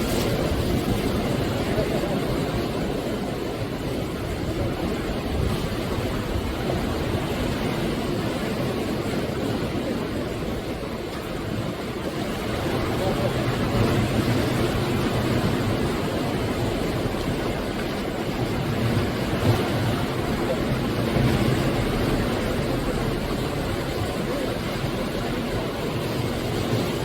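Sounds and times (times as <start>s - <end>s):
sea waves breaking on shore: 0.0s - 27.0s.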